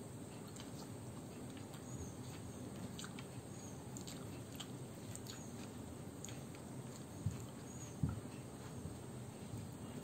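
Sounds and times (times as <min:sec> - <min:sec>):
steady low hum: 0:00.0 - 0:10.0
chewing clicks and smacks: 0:00.4 - 0:08.8.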